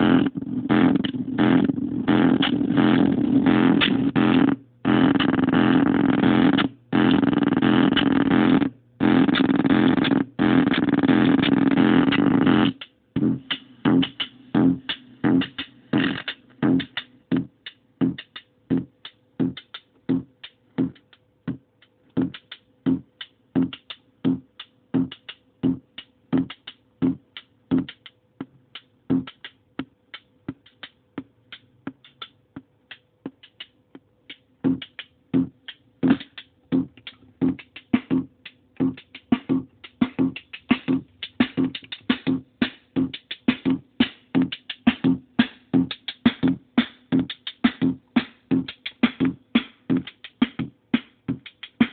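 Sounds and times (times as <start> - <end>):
distorted bass drum beat: 0.0 - 51.9
faint steady hum: 0.0 - 51.9.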